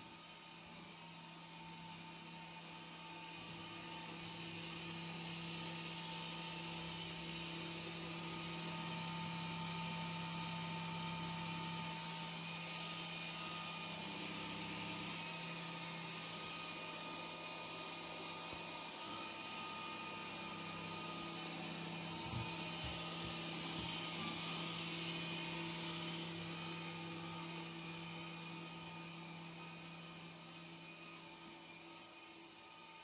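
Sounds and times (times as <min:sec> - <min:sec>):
robot vacuum cleaner whirring: 0:00.0 - 0:33.0.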